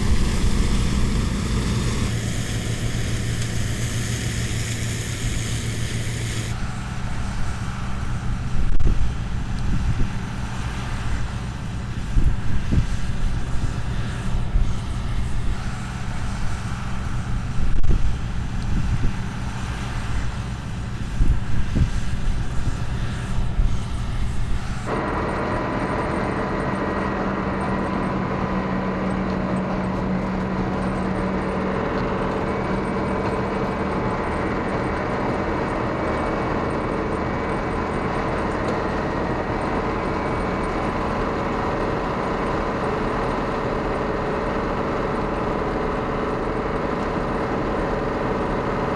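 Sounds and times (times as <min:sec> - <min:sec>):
combine diesel engine rumble: 0:00.0 - 0:48.9
machinery whine: 0:00.0 - 0:48.9.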